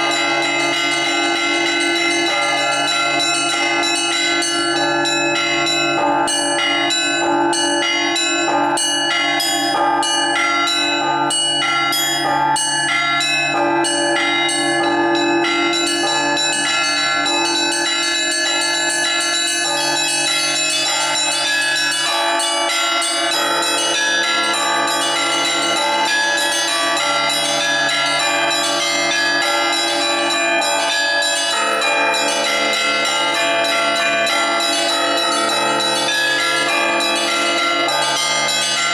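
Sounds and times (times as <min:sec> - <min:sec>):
hum of large low bells: 0:00.0 - 0:38.9
small high bells ringing fast: 0:00.0 - 0:38.9.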